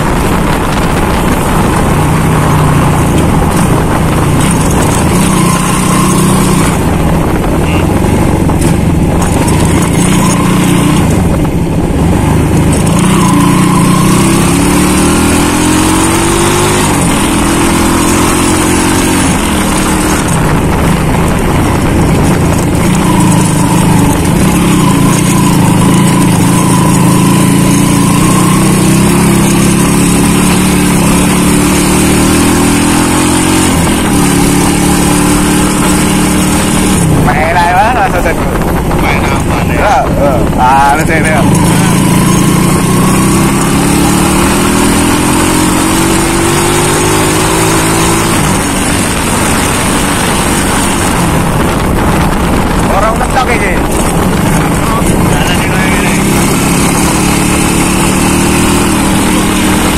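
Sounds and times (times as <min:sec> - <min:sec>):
small motorcycle engine accelerating: 0:00.0 - 0:59.9
wind noise on microphone: 0:00.0 - 0:59.9.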